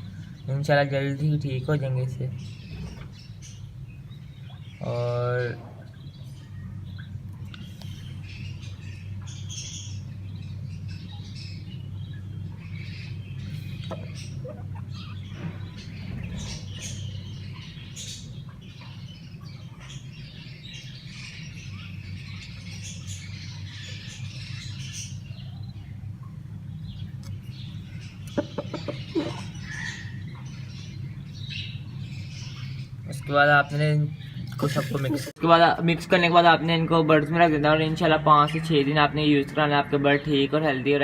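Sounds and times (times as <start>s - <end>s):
budgies chirping: 0.0s - 41.0s
steady low hum: 0.0s - 41.0s.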